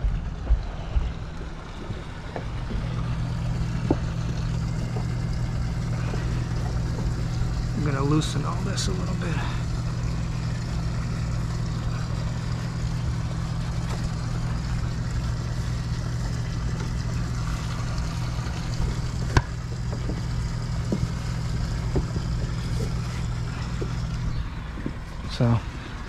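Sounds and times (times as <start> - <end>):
boat machinery idling hum: 0.0 - 26.0.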